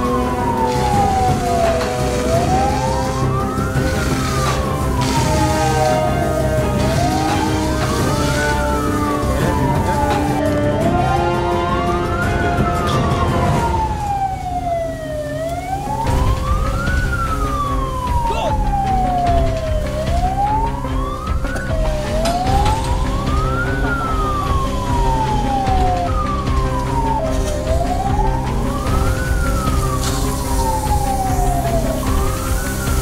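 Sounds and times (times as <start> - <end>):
emergency siren wailing: 0.0 - 33.0.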